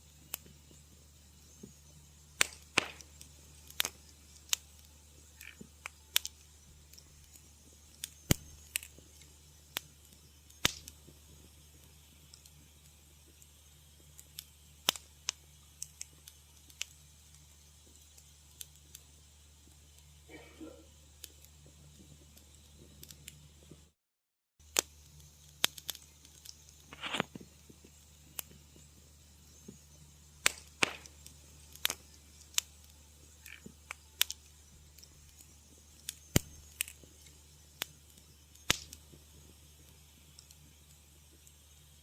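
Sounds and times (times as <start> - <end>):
steady low hum: 0.0 - 24.0, 24.6 - 42.0
wood fire crackling: 0.0 - 24.0, 24.6 - 42.0.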